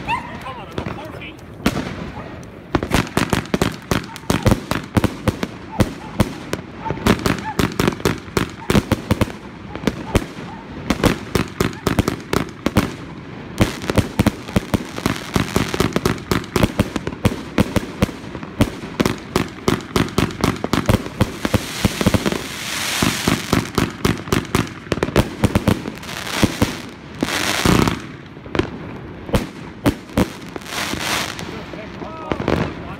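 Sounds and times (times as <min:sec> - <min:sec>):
crackling hiss of fireworks: 0:00.0 - 0:32.9.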